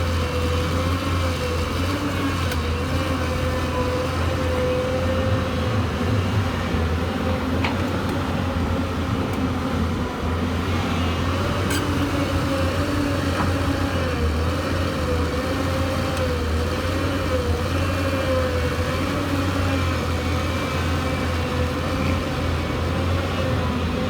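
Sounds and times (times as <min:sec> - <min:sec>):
excavator diesel engine running: 0:00.0 - 0:24.0
hydraulic whine: 0:00.0 - 0:24.0.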